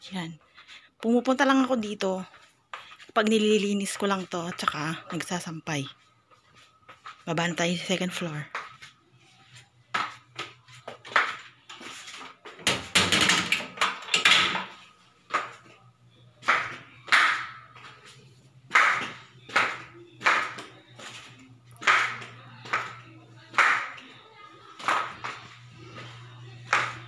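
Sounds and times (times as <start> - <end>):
footsteps on tiled stairs: 1.5 - 5.5, 6.2 - 13.0, 13.8 - 27.0.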